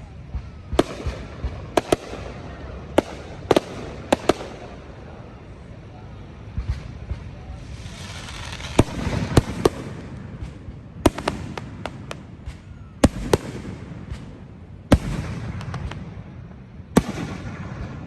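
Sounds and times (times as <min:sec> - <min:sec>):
background hiss: 0:00.0 - 0:18.0
fireworks bangs: 0:00.0 - 0:18.0
low rumbling echo: 0:00.0 - 0:18.0.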